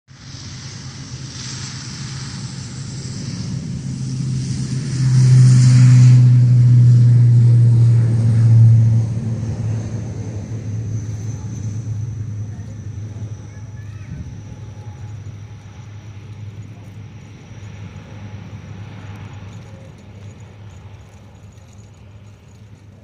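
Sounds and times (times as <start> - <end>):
propeller drone with hiss: 0.1 - 23.0.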